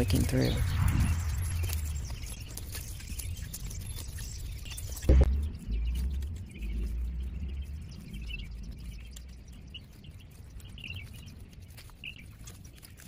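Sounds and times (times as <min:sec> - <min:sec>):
low rumble: 0:00.0 - 0:12.8
small birds chirping: 0:00.0 - 0:13.0.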